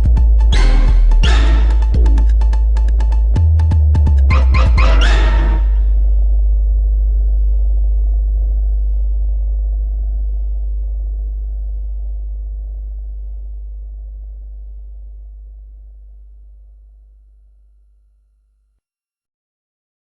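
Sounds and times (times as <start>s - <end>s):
deep bass sine tone: 0.0s - 17.8s.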